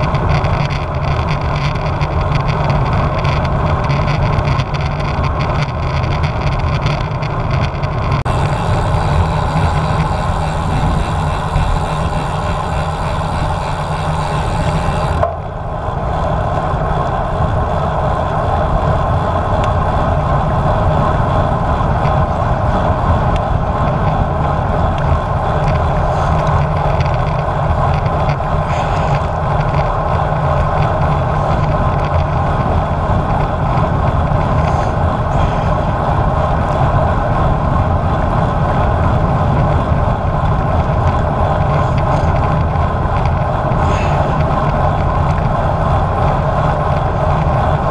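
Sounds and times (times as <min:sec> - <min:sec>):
tyre and road noise: 0:00.0 - 0:47.9
wind rushing over microphone: 0:00.0 - 0:47.9.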